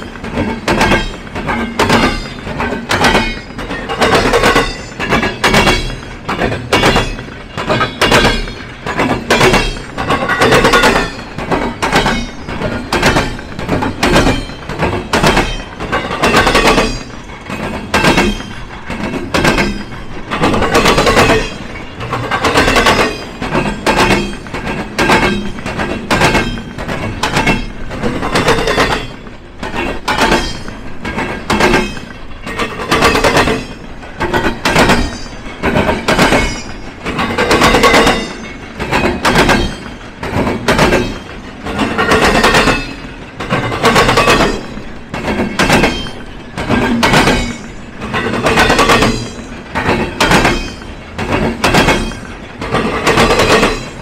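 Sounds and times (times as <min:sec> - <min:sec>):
train rolling rumble: 0:00.0 - 0:54.0
train wheels banging on crossing: 0:00.0 - 0:54.0.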